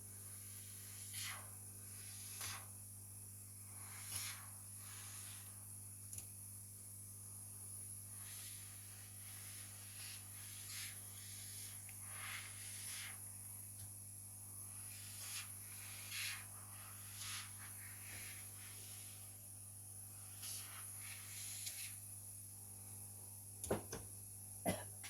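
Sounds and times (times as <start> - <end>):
low electrical hum and hiss: 0.0 - 25.0.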